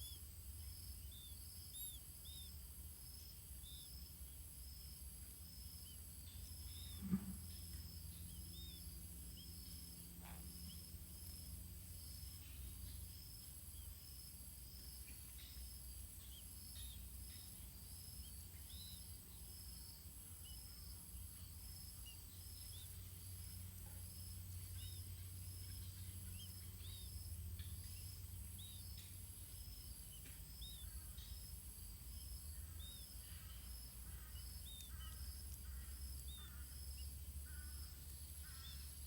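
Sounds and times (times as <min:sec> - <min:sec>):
high insect drone: 0:00.0 - 0:39.0
insects chirping: 0:00.0 - 0:39.0.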